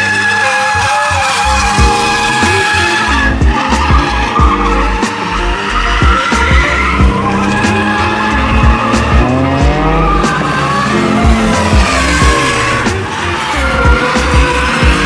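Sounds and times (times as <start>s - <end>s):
rotary engine revving: 0.0s - 15.0s
tyres squealing and skidding: 0.0s - 15.0s.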